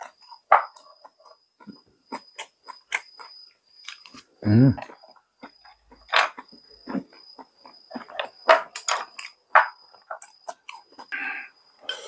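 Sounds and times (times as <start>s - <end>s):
person chewing and smacking food: 0.0s - 11.2s.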